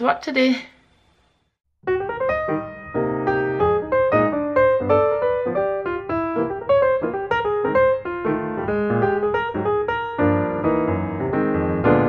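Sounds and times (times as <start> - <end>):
bright piano melody: 1.8 - 12.0.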